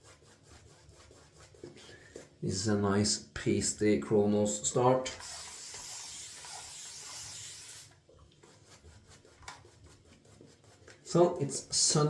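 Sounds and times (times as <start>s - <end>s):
shaving brush rubbing soap: 0.0s - 3.2s, 5.1s - 12.0s.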